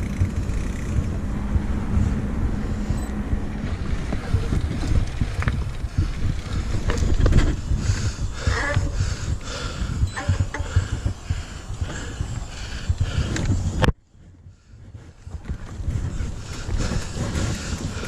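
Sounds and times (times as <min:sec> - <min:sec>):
bike clicks and rattles: 0:00.0 - 0:18.0
low rumble: 0:00.0 - 0:18.0
wind buffeting microphone: 0:00.0 - 0:18.0.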